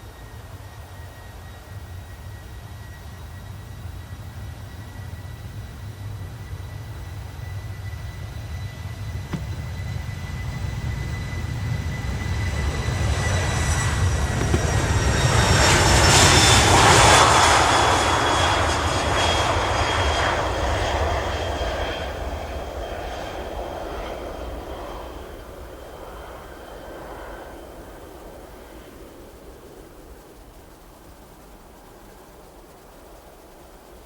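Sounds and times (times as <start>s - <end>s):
jet aircraft passing: 0.0s - 34.0s.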